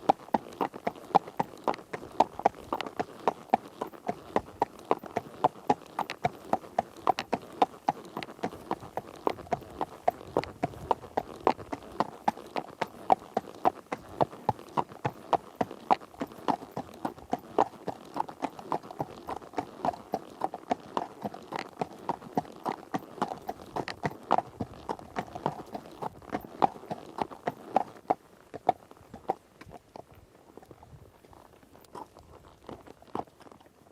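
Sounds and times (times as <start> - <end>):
horse hooves clip-clopping: 0.0 - 33.9.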